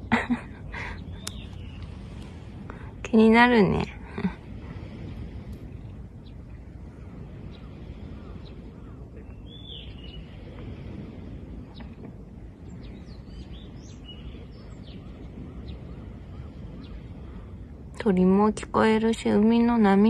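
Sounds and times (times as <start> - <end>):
birds chirping: 0.0 - 20.0
sea waves rushing: 0.0 - 20.0.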